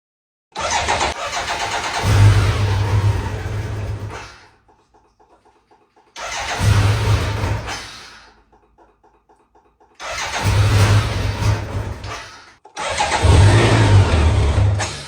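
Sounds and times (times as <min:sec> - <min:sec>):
motorcycle engine starting: 0:00.6 - 0:15.0.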